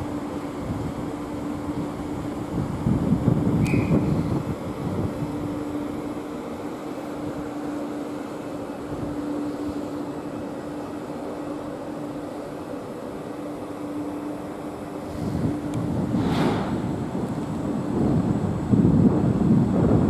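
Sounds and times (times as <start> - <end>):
electric train humming: 0.0 - 20.0.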